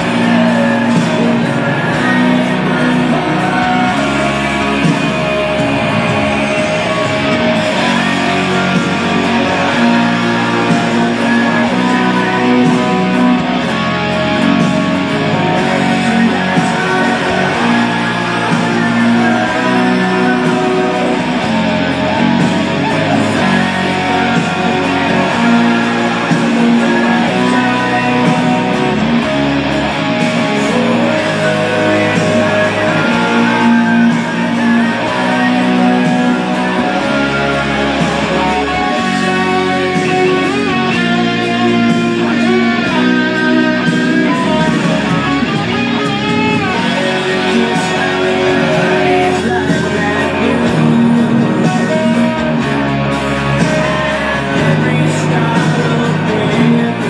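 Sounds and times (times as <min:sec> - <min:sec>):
electric guitar: 0:00.0 - 0:57.0
rock ballad music: 0:00.0 - 0:57.0.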